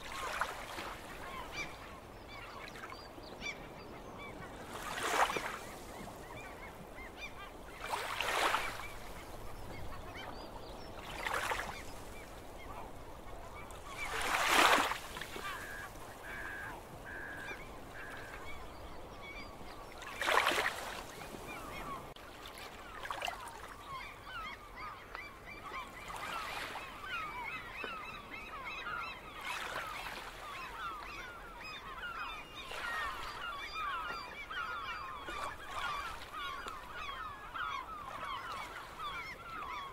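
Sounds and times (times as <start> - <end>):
small waves breaking ashore: 0.0 - 39.9
birds calling: 0.1 - 22.2, 22.8 - 39.9.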